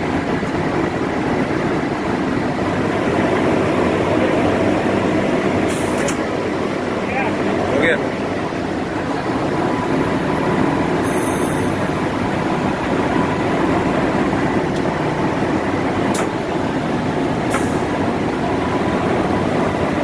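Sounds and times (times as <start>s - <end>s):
locomotive cab rumble: 0.0s - 20.0s.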